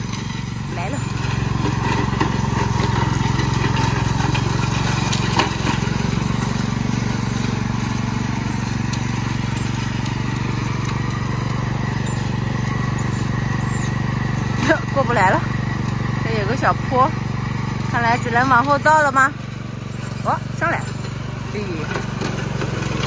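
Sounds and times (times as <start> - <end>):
riding lawn mower engine: 0.0 - 23.0.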